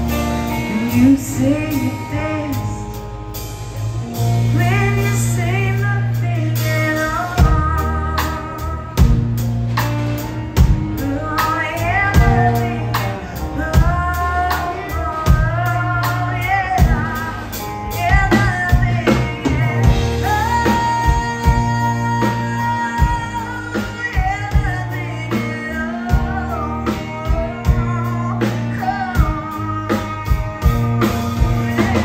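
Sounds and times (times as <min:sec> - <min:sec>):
bass: 0:00.0 - 0:32.0
drum kit slow beat: 0:00.0 - 0:32.0
guitar: 0:00.0 - 0:32.0
woman singing country ballad: 0:00.0 - 0:32.0.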